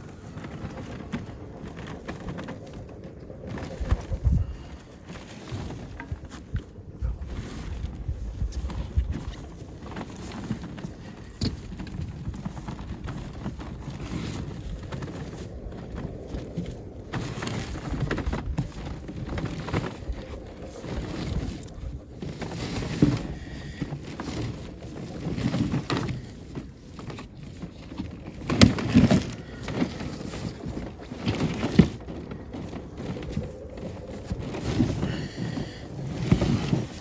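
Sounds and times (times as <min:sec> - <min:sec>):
cable spool rolling on ground: 0:00.0 - 0:37.0
wind buffeting microphone: 0:00.0 - 0:37.0.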